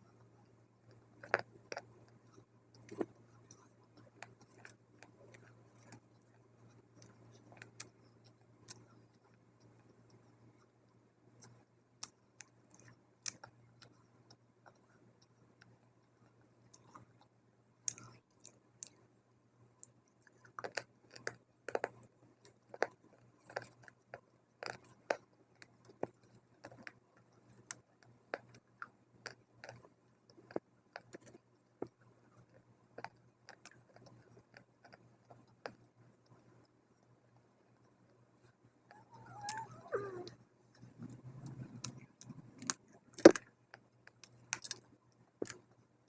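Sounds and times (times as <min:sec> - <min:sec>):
crunchy chewing of dry clay: 0:00.1 - 0:10.6, 0:11.3 - 0:19.1, 0:19.8 - 0:46.0.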